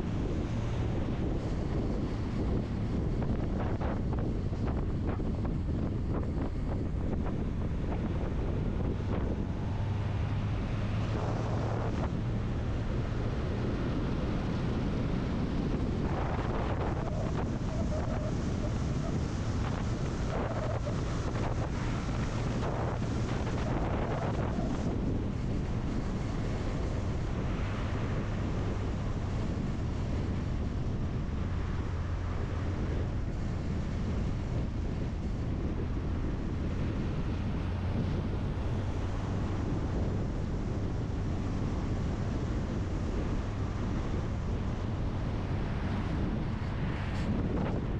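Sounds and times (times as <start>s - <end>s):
road noise: 0.0s - 47.9s
vehicle engine drone: 0.0s - 47.9s
wind buffeting microphone: 0.0s - 47.9s.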